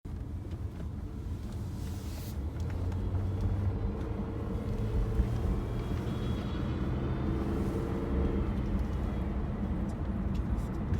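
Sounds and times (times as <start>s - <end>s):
car engine low rumble: 0.1s - 10.9s.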